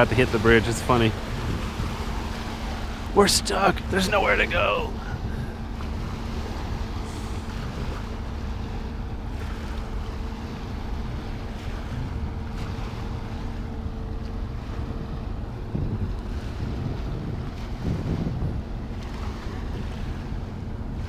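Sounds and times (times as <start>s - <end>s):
wind rumble on microphone: 0.0s - 21.0s
faint hum: 0.3s - 21.0s.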